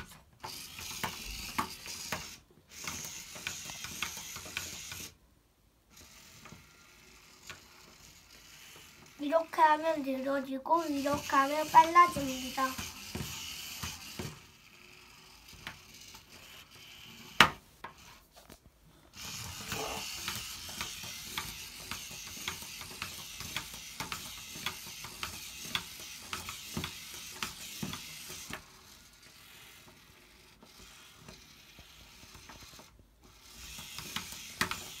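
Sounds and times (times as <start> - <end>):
geared motor running: 0.0 - 5.2, 5.9 - 18.2, 19.1 - 35.0
plastic gears clicking rapidly: 0.4 - 5.2, 5.9 - 10.1, 10.7 - 18.1, 19.1 - 35.0.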